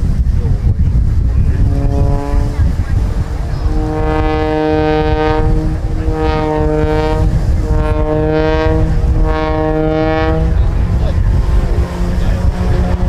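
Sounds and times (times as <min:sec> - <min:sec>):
propeller plane engine: 0:00.0 - 0:13.0
wind buffeting microphone: 0:00.0 - 0:13.0.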